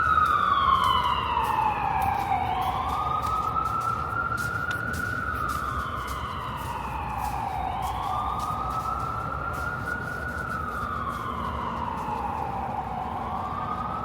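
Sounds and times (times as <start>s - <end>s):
siren wailing: 0.0s - 14.0s
street traffic rumble: 0.0s - 14.0s.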